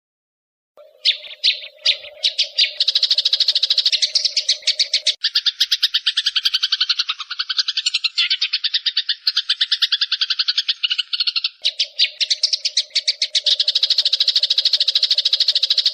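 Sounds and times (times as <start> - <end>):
sparrows chirping rapidly: 0.8 - 15.9.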